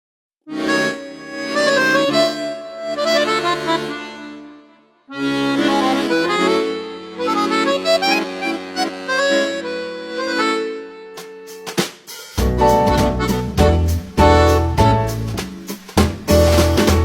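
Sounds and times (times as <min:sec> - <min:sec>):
melody over held chords: 0:00.5 - 0:11.6, 0:12.4 - 0:15.4.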